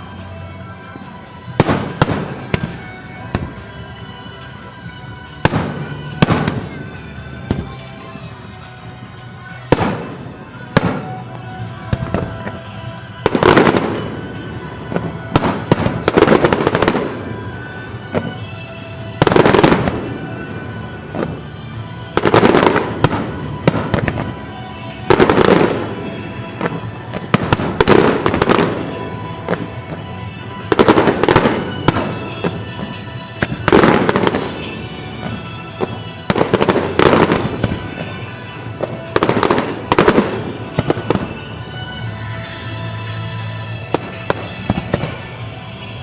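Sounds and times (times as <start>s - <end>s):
fireworks bursting with bangs: 0.0s - 46.0s
fireworks crackling: 0.0s - 46.0s
music playing: 0.0s - 46.0s.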